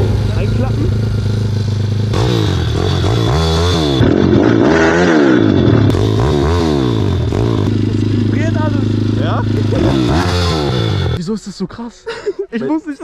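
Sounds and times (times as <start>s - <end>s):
motocross bike engine revving: 0.0s - 11.2s.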